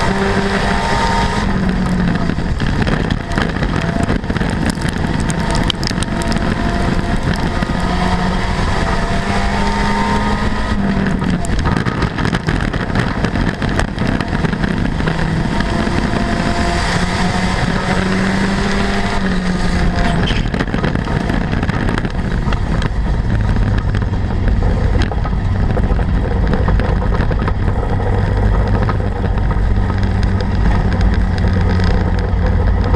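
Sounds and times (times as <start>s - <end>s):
car rattling over dirt: 0.0s - 32.9s
race car engine running hard: 0.0s - 32.9s.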